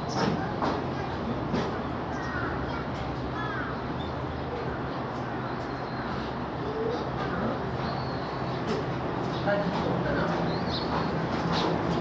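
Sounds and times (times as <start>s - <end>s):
bird calls: 0.0s - 12.0s
low background hum: 0.0s - 12.0s.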